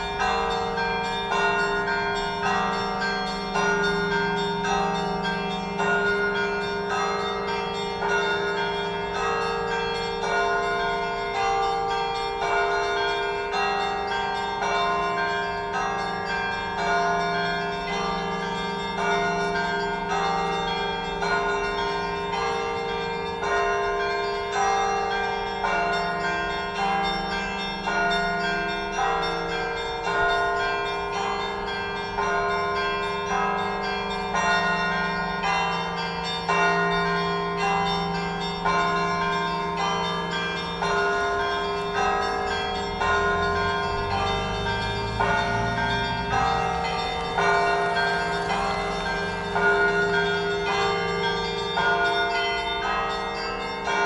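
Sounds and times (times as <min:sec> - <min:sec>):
church bells ringing: 0:00.0 - 0:54.0
low bells humming: 0:00.0 - 0:54.0.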